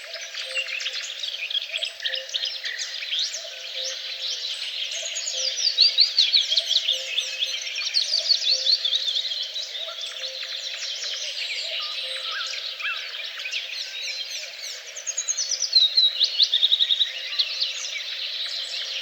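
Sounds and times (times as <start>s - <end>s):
songbirds chorus: 0.0s - 19.0s.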